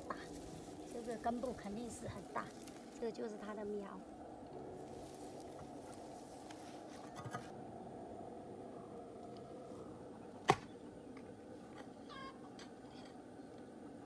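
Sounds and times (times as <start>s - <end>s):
low outdoor hum: 0.0s - 14.0s.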